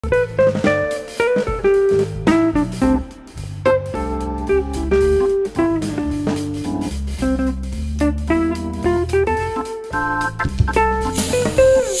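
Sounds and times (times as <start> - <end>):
jazzy plucked guitar music: 0.0 - 12.0.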